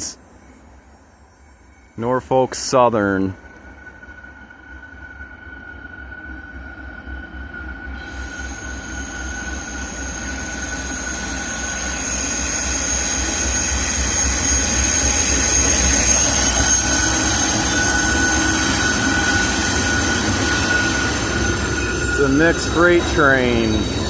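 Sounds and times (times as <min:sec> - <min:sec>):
diesel locomotive engine rumble: 0:02.2 - 0:24.0
wheels squealing on rails: 0:03.0 - 0:24.0.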